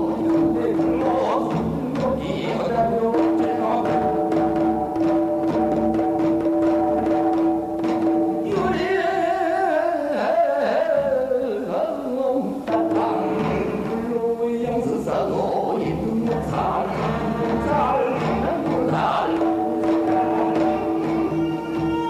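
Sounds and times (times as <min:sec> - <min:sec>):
traditional instruments: 0:00.0 - 0:22.0
wordless sung melody with vibrato: 0:00.0 - 0:22.0.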